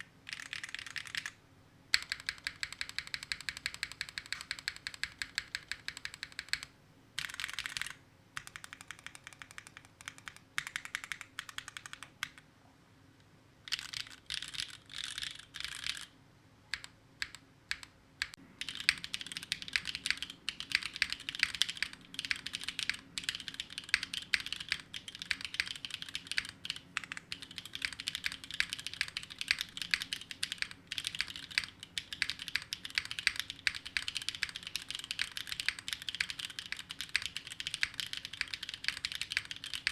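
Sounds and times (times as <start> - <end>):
mechanical keyboard typing: 0.0 - 12.4, 13.7 - 16.1, 16.7 - 39.9.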